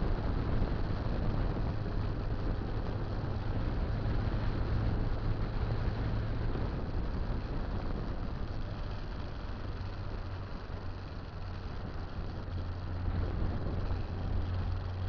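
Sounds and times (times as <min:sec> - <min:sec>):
motorcycle engine running: 0:00.0 - 0:15.0
road noise: 0:00.0 - 0:15.0
wind noise: 0:00.0 - 0:15.0.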